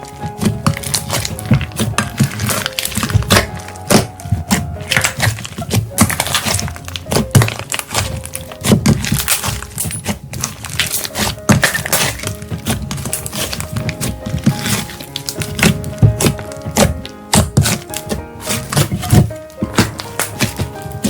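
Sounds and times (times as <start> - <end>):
slime crackling and popping: 0.0 - 21.0.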